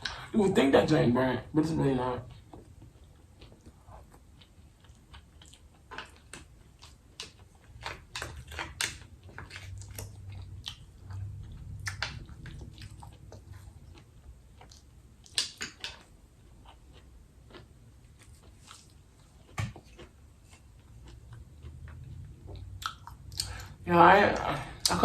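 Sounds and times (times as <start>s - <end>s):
person chewing food: 2.2s - 23.8s.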